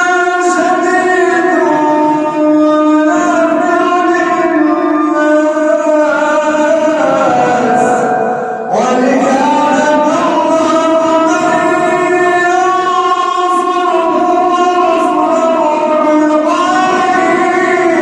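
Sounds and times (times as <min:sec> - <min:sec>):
man chanting melodically: 0:00.0 - 0:18.0.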